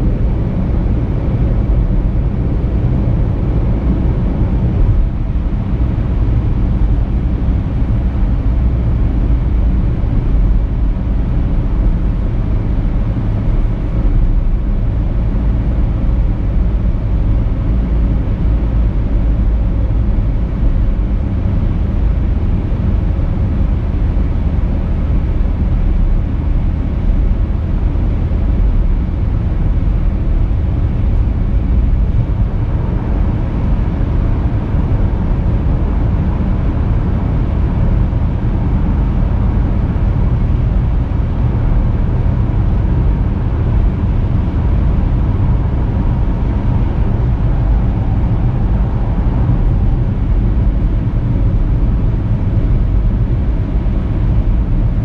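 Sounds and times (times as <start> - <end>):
car tyres and engine rumbling: 0.0 - 55.0.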